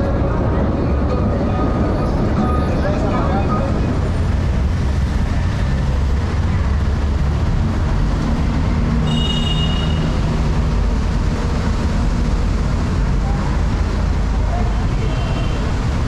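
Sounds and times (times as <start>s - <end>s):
heavy vehicle rumbling: 0.0s - 16.0s.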